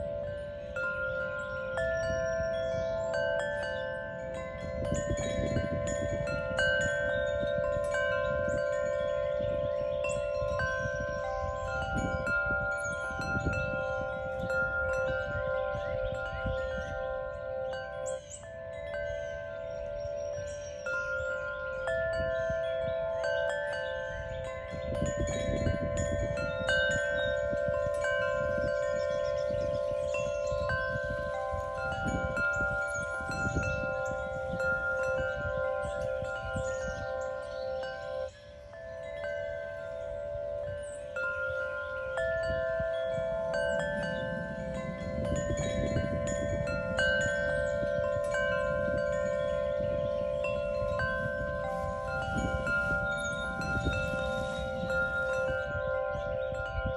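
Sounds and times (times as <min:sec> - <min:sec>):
wind chimes ringing: 0:00.0 - 0:56.9.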